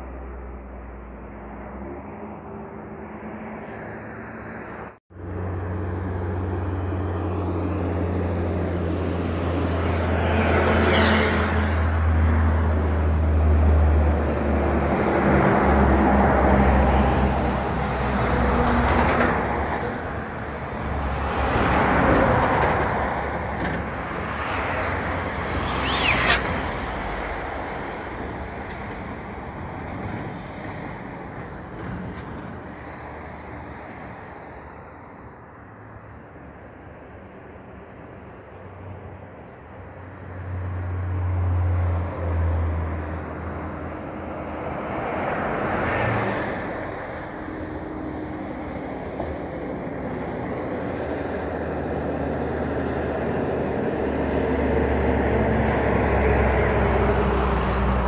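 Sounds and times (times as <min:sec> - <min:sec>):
heavy trucks passing: 0:00.0 - 0:58.0.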